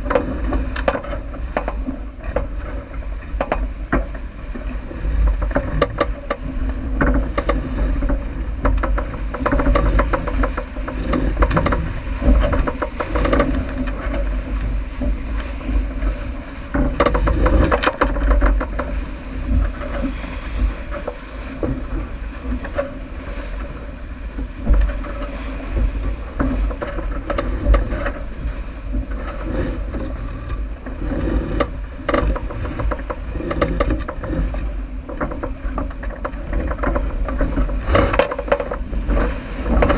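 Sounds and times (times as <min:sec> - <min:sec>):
water noise: 0:00.0 - 0:39.9
wind: 0:00.0 - 0:39.9.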